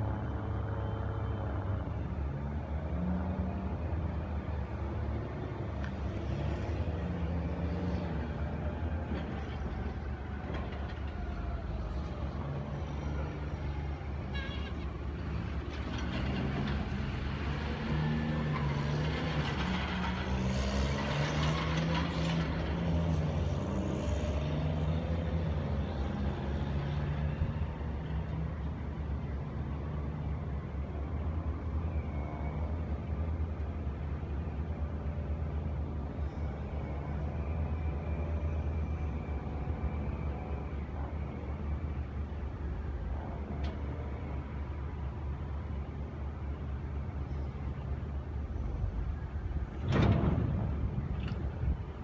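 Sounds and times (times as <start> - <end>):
diesel engines revving: 0.0 - 52.0.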